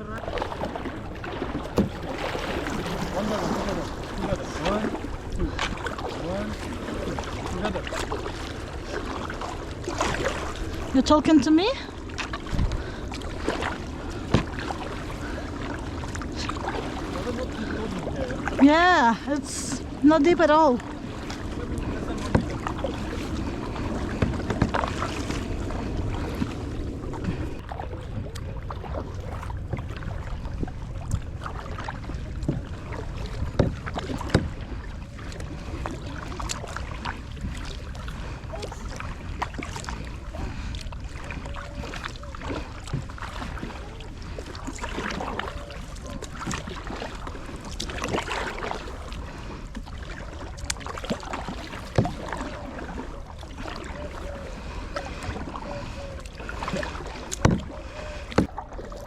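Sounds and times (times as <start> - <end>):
wind rumble on microphone: 0.0 - 58.6
paddle splashing through water: 0.0 - 59.0.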